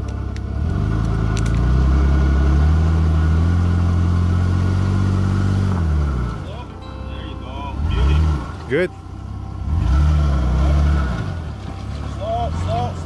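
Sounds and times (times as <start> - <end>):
truck engine revving under load: 0.0 - 13.0.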